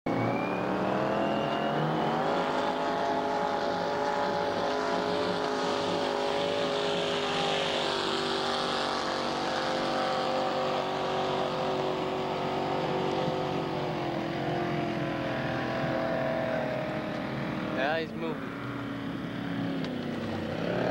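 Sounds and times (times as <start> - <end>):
boat engine running hard: 0.2 - 20.9.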